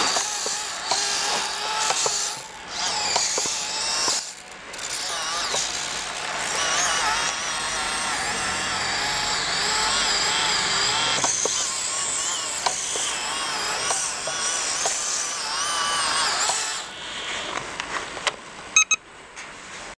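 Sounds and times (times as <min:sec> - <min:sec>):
small electric motor whining: 0:00.0 - 0:17.6.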